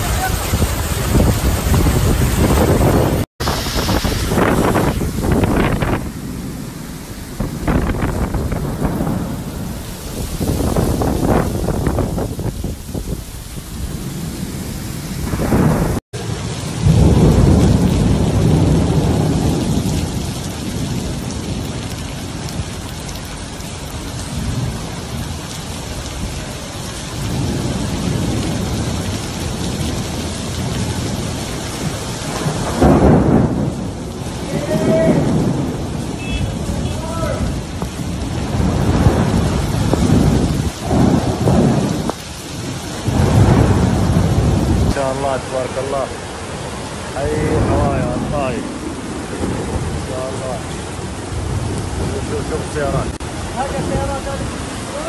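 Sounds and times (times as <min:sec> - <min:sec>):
heavy rain pouring on road and cars: 0:00.0 - 0:55.0
low thunder rumbles: 0:00.0 - 0:55.0.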